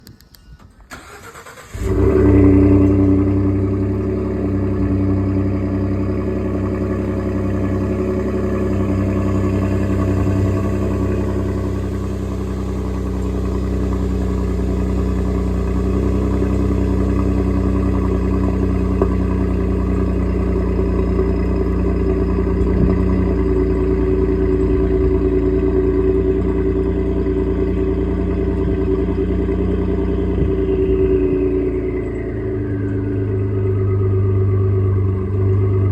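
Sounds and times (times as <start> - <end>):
truck engine starting and idling: 0.6 - 35.9.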